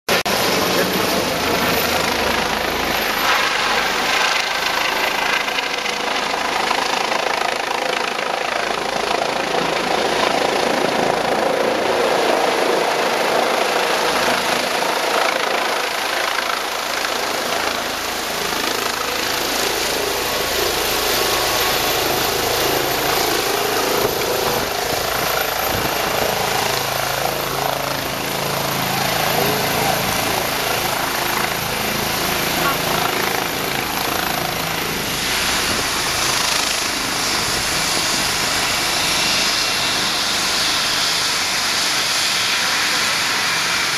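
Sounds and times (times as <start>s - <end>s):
helicopter rotor and turbine: 0.1s - 43.9s.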